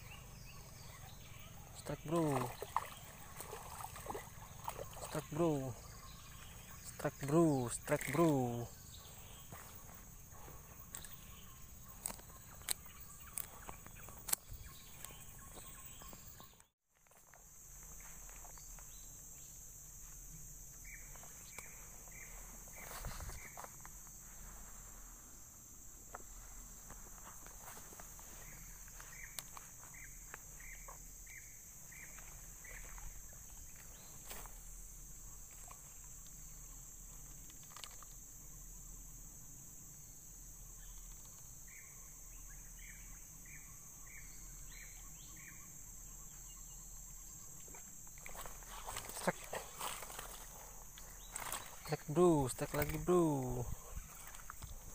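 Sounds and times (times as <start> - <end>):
insects buzzing: 0.0 - 54.9.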